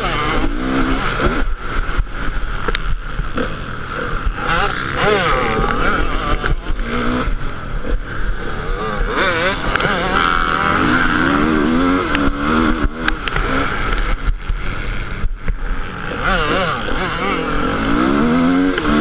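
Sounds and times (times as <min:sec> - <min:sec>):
motorcycle engine revving: 0:00.0 - 0:19.0
noisy rush and low rumble: 0:00.0 - 0:19.0.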